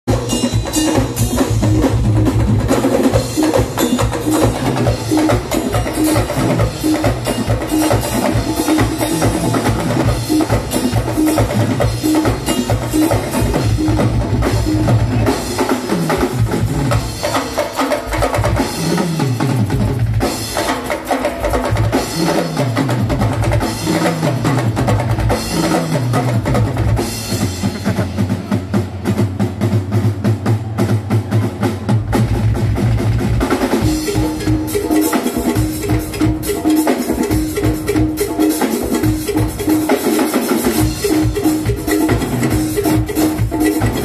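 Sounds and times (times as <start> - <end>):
drum kit and hand percussion: 0.0 - 44.0
live band music: 0.0 - 44.0.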